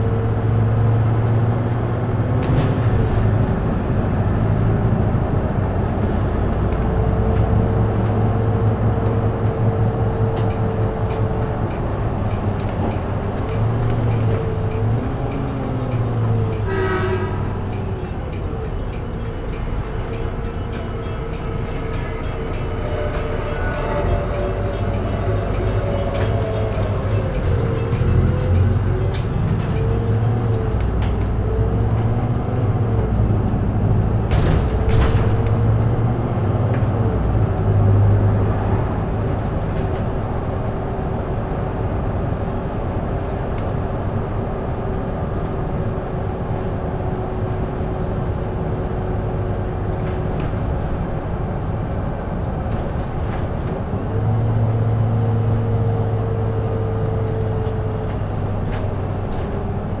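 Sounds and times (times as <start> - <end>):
bus diesel engine droning: 0.0 - 60.0
road noise: 0.0 - 60.0.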